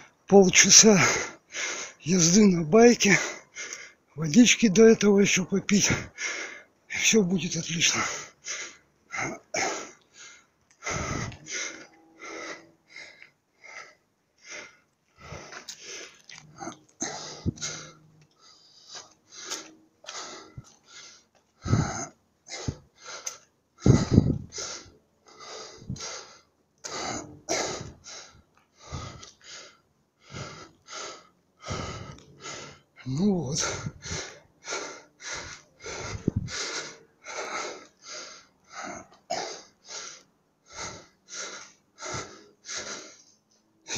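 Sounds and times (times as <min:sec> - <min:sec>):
man panting heavily: 0:00.0 - 0:43.9.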